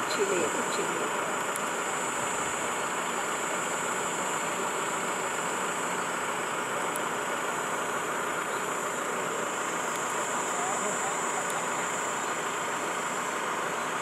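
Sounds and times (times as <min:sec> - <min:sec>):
high-pitched whine: 0:00.0 - 0:14.0
vehicle engine idling: 0:00.0 - 0:14.0.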